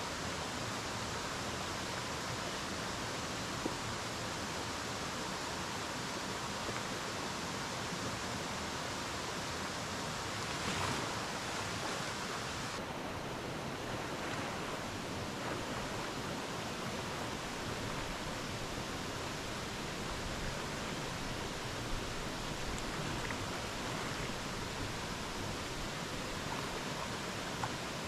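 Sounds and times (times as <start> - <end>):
stream flowing over stones: 0.0 - 28.0.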